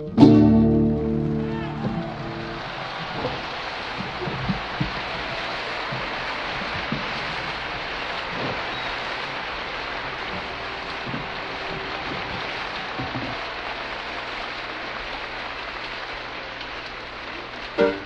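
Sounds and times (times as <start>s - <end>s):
steady hiss: 2.6s - 18.0s.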